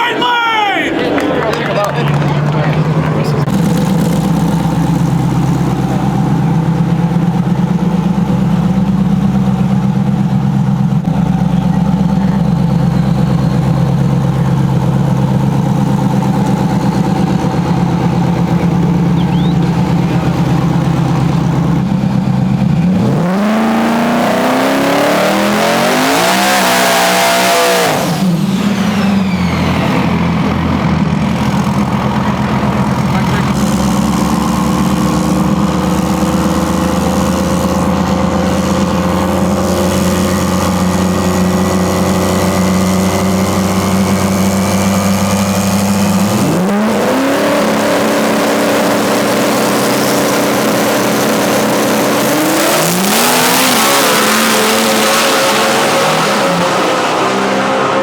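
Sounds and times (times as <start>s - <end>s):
truck engine idling and revving: 0.9s - 58.0s.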